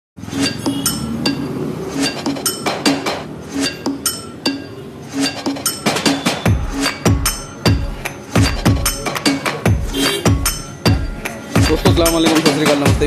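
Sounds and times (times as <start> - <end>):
rhythmic metallic clinks: 0.3 - 13.0.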